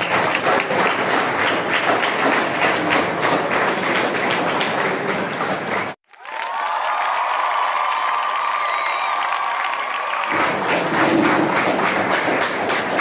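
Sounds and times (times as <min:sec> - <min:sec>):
people clapping: 0:00.0 - 0:13.0.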